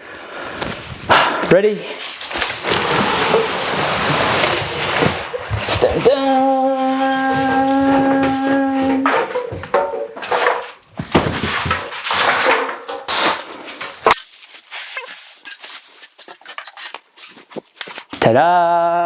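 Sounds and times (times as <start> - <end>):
cardboard scraping and rustling: 0.0 - 18.2.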